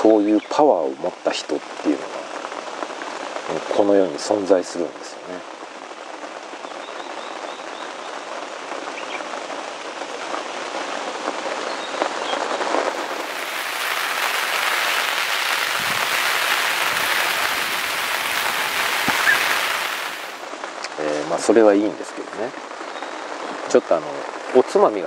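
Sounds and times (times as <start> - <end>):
steady rain falling: 0.0 - 25.0
raindrops tapping nearby: 1.2 - 25.0.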